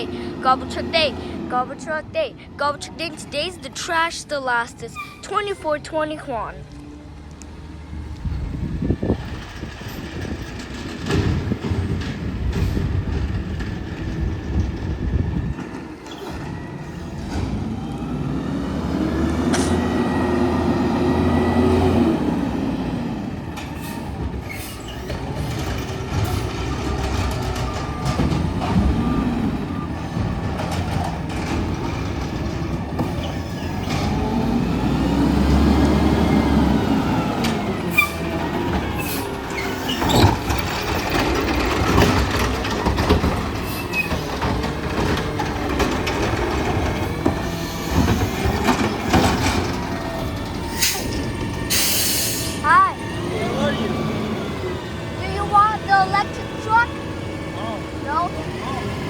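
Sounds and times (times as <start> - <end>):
garbage truck engine revving: 0.0 - 2.1, 2.9 - 59.0.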